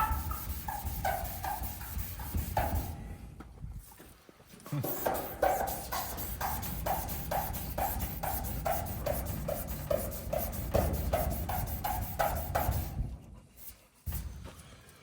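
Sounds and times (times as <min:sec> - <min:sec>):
hand rubbing sheet metal: 0:00.0 - 0:03.1, 0:04.7 - 0:14.3.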